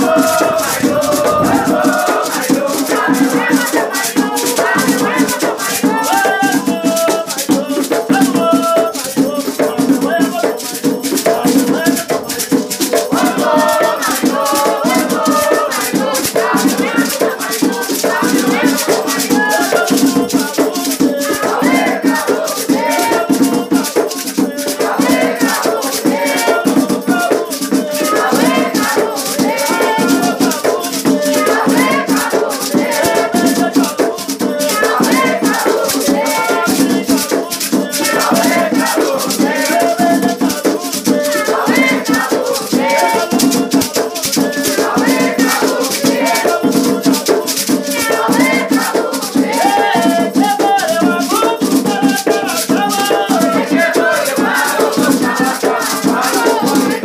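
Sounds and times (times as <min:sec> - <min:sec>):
fast shaker rattle: 0:00.0 - 0:57.0
person singing: 0:00.0 - 0:57.0.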